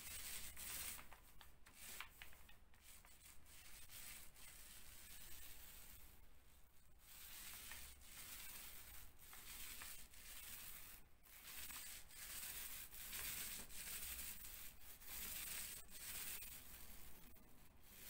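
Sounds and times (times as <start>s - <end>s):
paint roller rubbing on wall: 0.0s - 18.0s.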